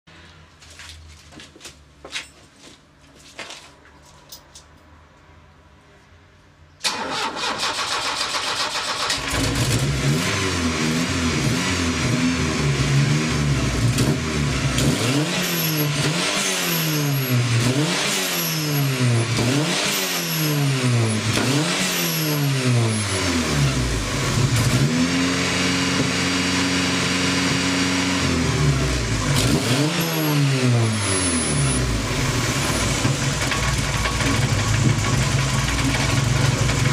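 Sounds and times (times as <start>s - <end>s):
car engine revving: 6.9s - 36.9s.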